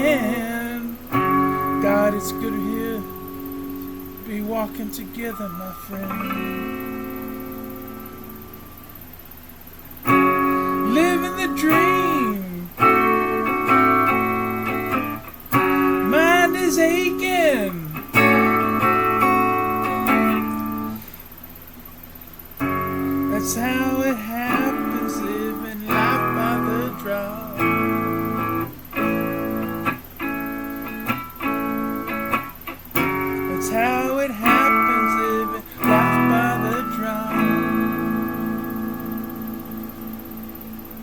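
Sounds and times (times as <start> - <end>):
solo blues guitar: 0.0 - 9.1, 10.0 - 21.2, 22.6 - 41.0.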